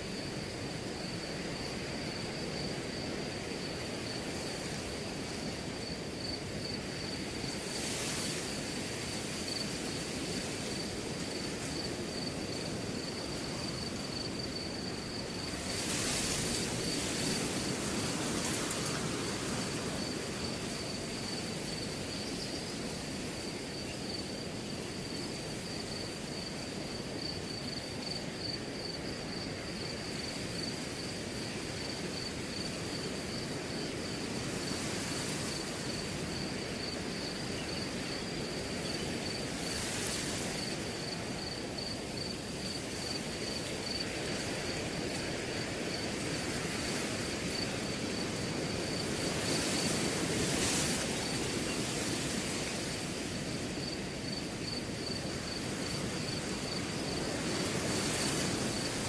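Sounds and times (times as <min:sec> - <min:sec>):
cricket chirping: 0:00.0 - 0:59.0
wind through grass: 0:00.0 - 0:59.0.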